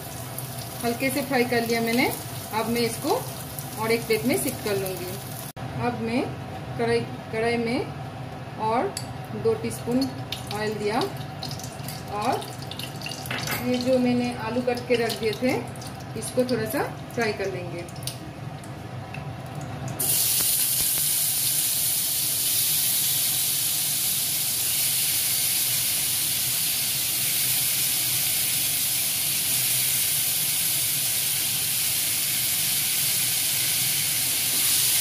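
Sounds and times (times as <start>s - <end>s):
potato frying in hot oil: 0.0s - 5.5s, 9.7s - 18.2s, 19.9s - 35.0s.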